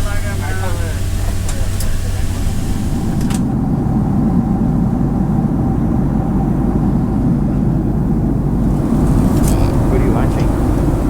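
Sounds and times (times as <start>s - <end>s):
airliner cabin rumble: 0.0s - 11.0s
faint steady hum: 0.0s - 11.0s.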